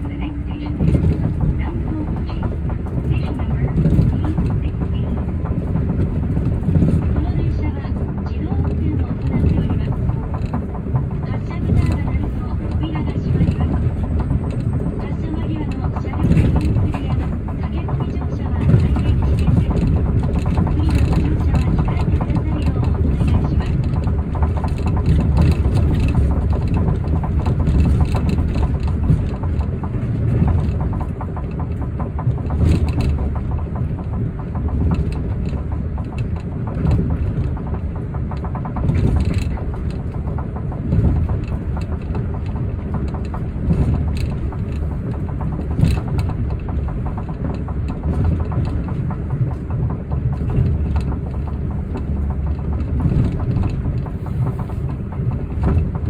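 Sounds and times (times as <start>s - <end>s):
rubber-tyred train rumbling: 0.0s - 56.0s.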